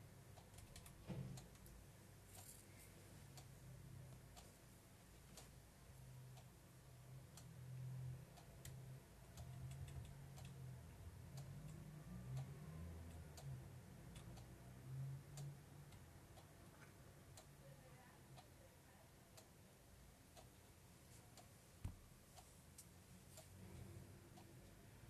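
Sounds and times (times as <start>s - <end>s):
faint low hum: 0.0s - 25.0s
faint irregular clicks: 0.1s - 25.0s.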